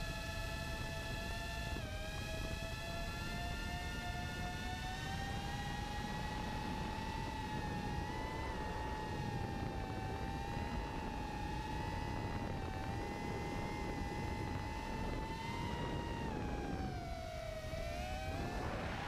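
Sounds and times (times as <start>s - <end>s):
drone motors whining: 0.2s - 19.0s
wind noise: 0.6s - 19.0s.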